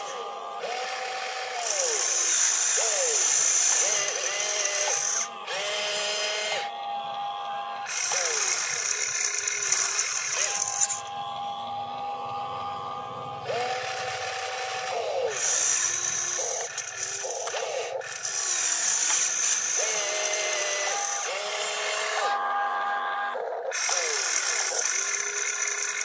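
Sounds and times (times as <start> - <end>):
excavator motors whining: 0.0 - 26.0.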